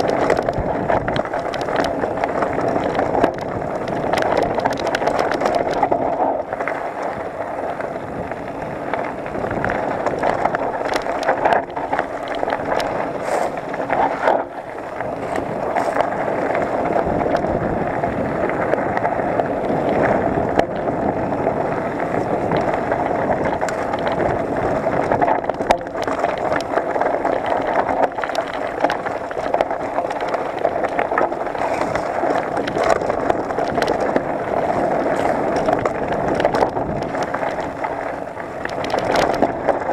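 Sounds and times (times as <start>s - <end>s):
bike rattling: 0.0s - 39.9s
bike tyres rumbling over dirt: 0.0s - 39.9s
wind on microphone: 0.0s - 39.9s.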